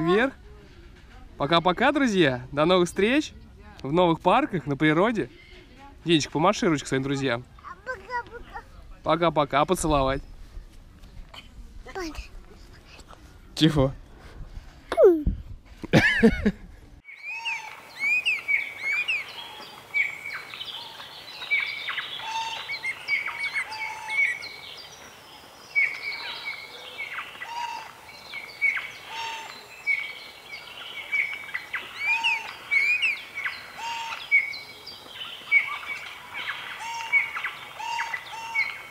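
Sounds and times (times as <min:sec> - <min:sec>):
songbirds chirping: 0:00.0 - 0:14.8, 0:17.0 - 0:38.9.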